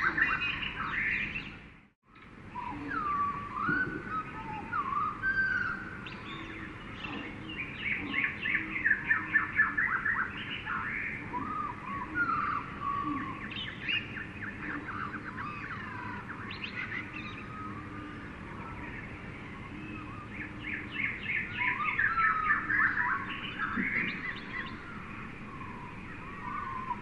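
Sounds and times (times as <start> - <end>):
birds whistling: 0.0 - 1.6, 2.5 - 27.0.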